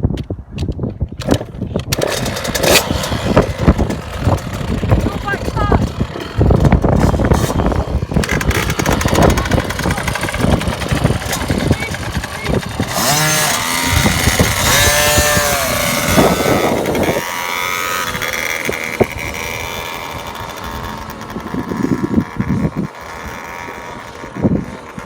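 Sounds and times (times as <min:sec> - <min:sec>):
two-stroke motorbike engine revving: 0:01.2 - 0:25.0.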